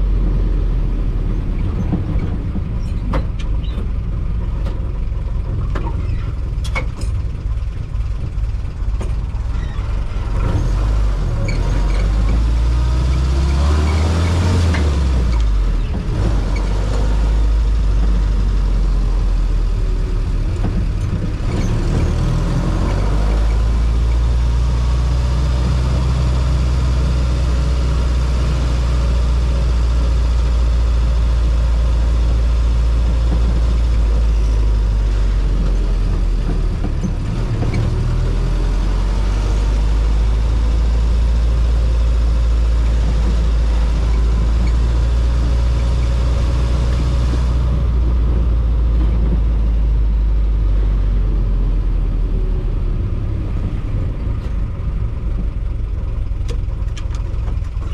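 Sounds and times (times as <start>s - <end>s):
car engine droning: 0.0s - 57.9s.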